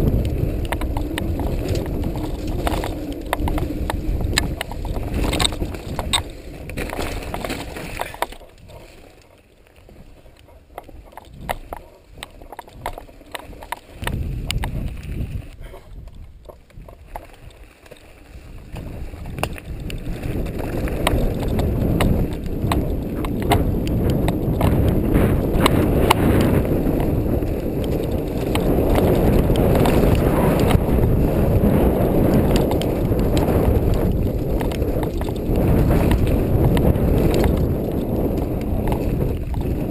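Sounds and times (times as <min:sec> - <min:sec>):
bike rattles and knocks: 0:00.0 - 0:39.9
bike tyres on dirt and rocks: 0:00.0 - 0:39.9.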